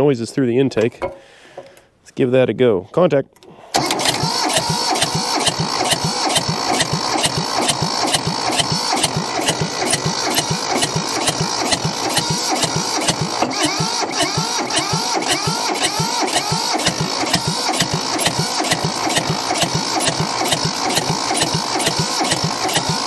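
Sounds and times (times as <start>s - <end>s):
starter cranking diesel engine: 3.7s - 23.0s.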